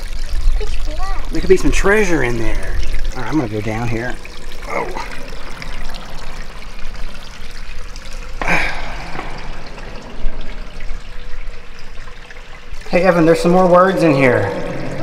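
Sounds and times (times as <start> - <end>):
water trickling over concrete: 0.0 - 15.0.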